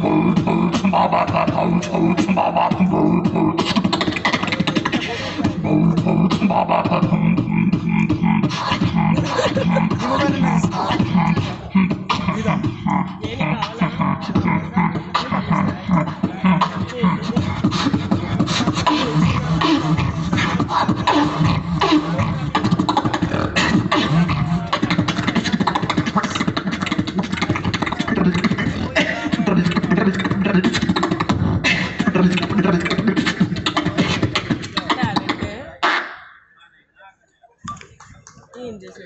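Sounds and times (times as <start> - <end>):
beatboxing into microphone: 0.0 - 36.4.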